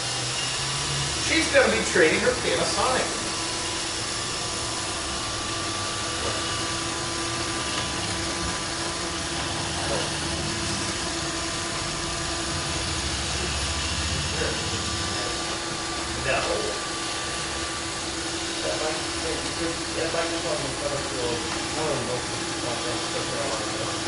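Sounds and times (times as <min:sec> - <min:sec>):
vacuum cleaner motor running: 0:00.0 - 0:24.0.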